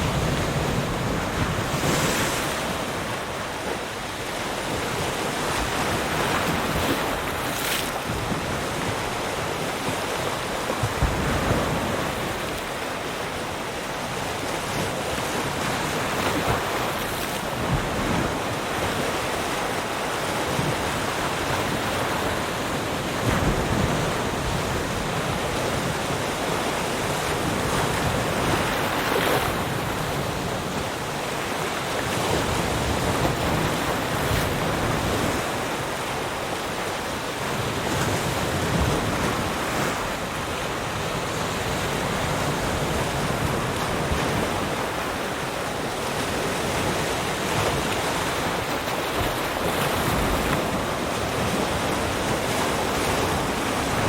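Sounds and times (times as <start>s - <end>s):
ocean waves breaking: 0.0s - 54.0s
wind: 0.0s - 54.0s.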